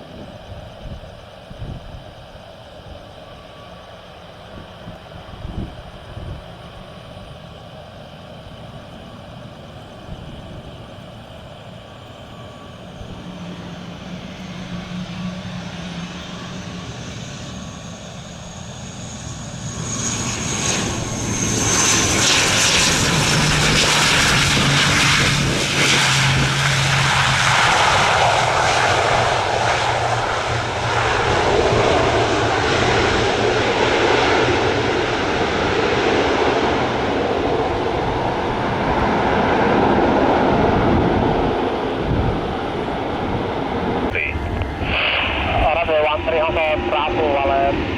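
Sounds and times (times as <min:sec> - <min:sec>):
aircraft engines: 0:00.0 - 0:47.9
high engine whine: 0:00.0 - 0:47.9.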